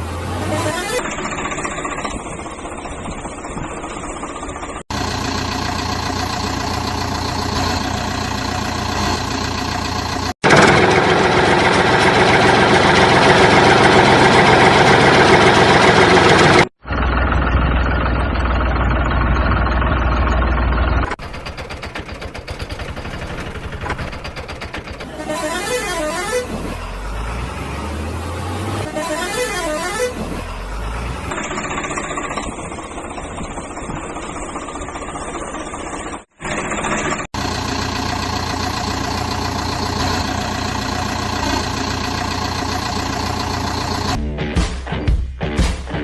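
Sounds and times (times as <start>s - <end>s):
engine running: 0.0s - 44.2s.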